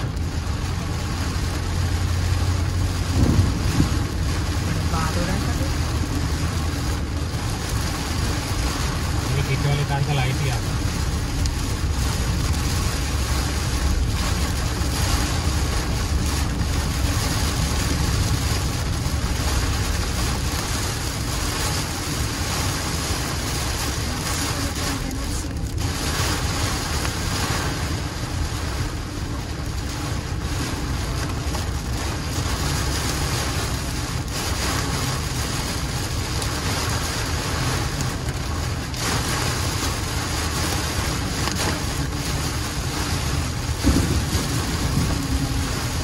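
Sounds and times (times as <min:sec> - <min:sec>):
car and tyres rumbling: 0:00.0 - 0:46.0
heavy rain pounding a car: 0:00.0 - 0:46.0.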